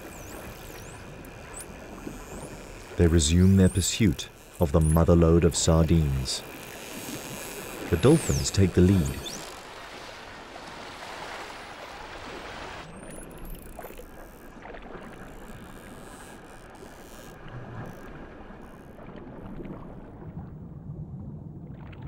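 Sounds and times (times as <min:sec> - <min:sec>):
choppy water splashing: 0:00.0 - 0:22.0.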